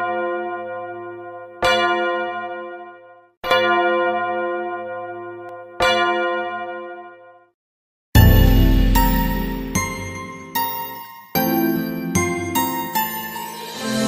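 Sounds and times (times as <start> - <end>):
church bell tolling: 0.0 - 7.2, 8.2 - 13.7.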